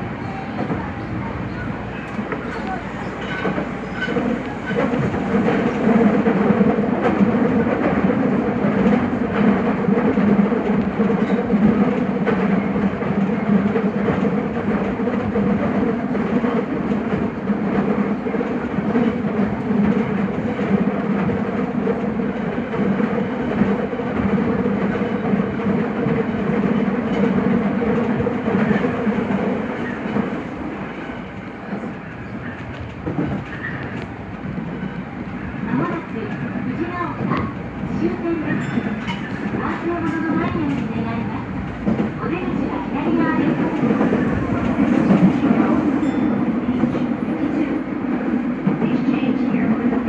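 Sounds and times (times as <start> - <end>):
train wheels rolling on rail: 0.0 - 50.0.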